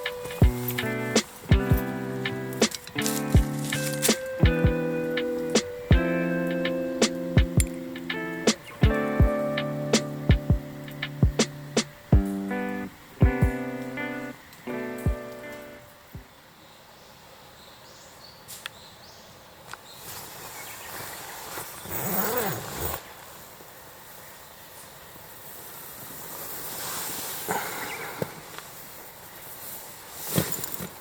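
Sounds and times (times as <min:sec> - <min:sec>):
steady outdoor hiss: 0:00.0 - 0:31.0.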